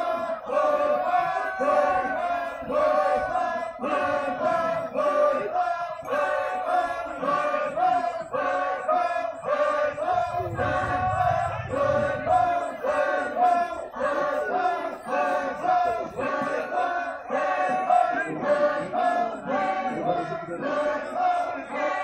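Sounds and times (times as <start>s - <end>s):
group chanting: 0.0s - 22.0s.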